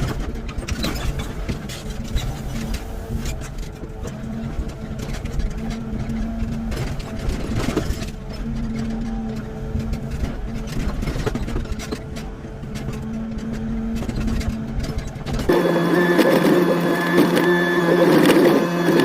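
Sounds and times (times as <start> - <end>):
diesel engine low rumble: 0.0 - 19.0
pitched hum: 1.4 - 19.0.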